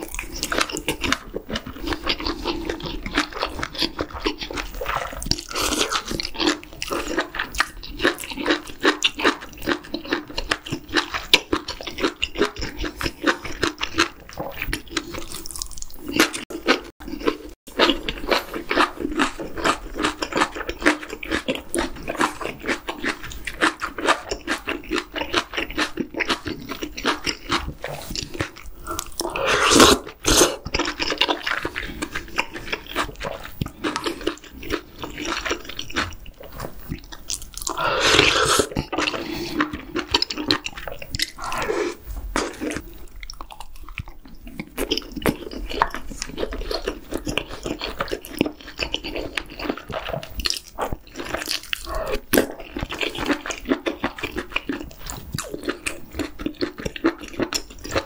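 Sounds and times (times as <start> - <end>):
wet chewing and mouth sounds: 0.0 - 58.0.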